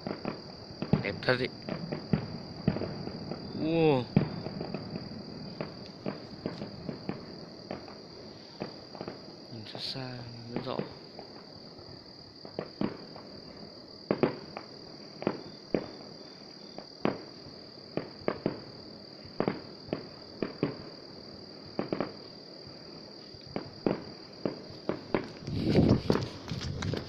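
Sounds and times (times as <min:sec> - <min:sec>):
distant fireworks popping: 0:00.0 - 0:27.0
night insects chirring: 0:00.0 - 0:27.0.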